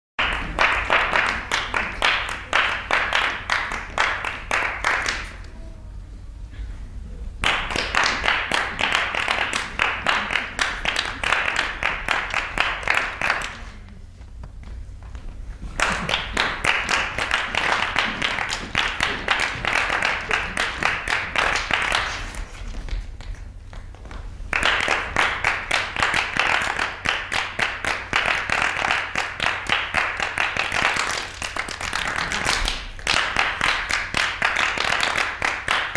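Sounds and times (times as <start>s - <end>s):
group clapping hands rhythmically: 0.2s - 5.5s, 7.4s - 35.9s
steady low hum: 0.2s - 35.9s.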